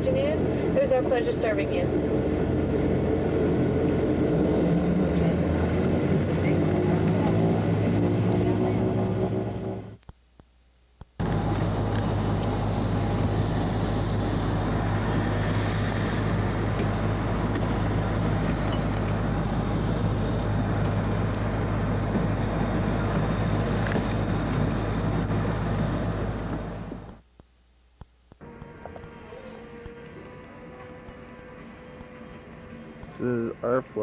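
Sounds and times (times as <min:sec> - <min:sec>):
moving vehicle hum: 0:00.0 - 0:10.0, 0:11.2 - 0:27.2, 0:28.4 - 0:34.0.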